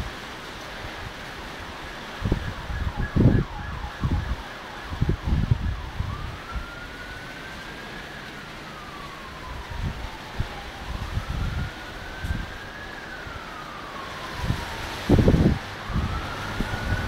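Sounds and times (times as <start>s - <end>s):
emergency vehicle siren: 0.0s - 17.0s.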